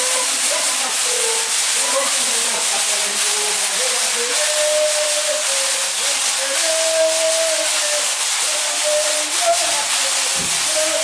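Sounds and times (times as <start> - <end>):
metal shakers rattling: 0.0 - 11.0.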